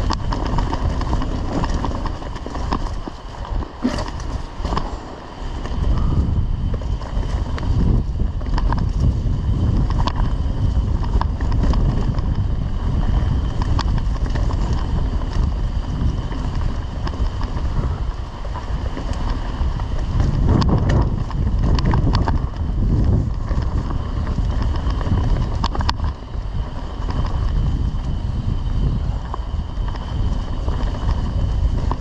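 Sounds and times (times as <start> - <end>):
bike clicks and knocks: 0.0 - 32.0
tyres rolling on dirt: 0.0 - 32.0
wind rushing over microphone: 0.0 - 32.0.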